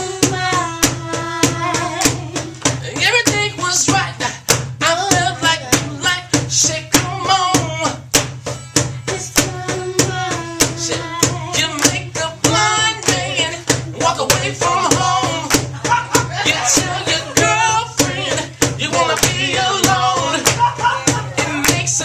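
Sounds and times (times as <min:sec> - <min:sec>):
person singing lead vocal: 0:00.0 - 0:08.1, 0:09.1 - 0:22.0
band playing drums bass guitar: 0:00.0 - 0:22.0.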